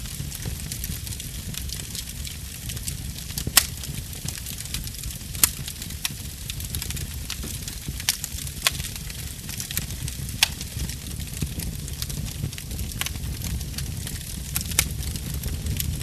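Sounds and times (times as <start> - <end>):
wood fire crackling: 0.0 - 16.0
sharp snaps and pops: 2.8 - 16.0.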